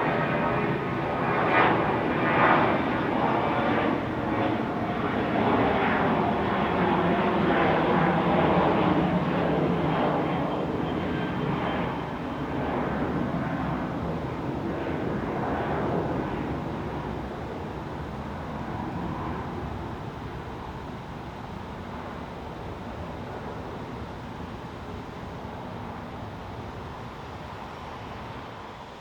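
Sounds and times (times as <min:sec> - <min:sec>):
airliner engines rumbling: 0:00.0 - 0:29.0.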